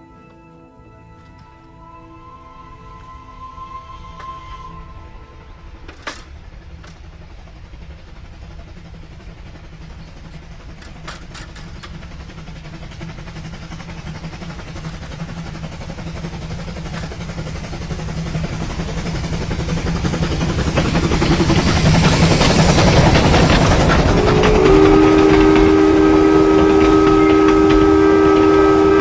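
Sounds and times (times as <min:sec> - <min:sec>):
rail clicks: 0:00.1 - 0:29.0
model train motor hum: 0:02.6 - 0:29.0.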